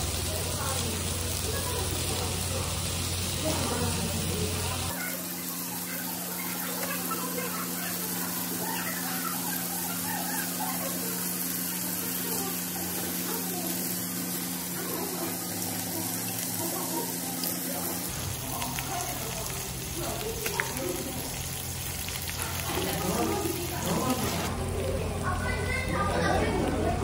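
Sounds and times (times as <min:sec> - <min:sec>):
meat sizzling on grill plate: 0:00.0 - 0:26.8.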